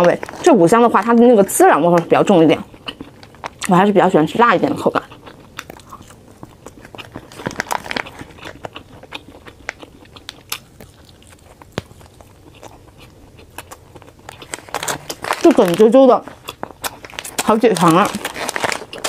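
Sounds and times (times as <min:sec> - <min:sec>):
person chewing: 0:01.9 - 0:03.8, 0:04.8 - 0:19.0.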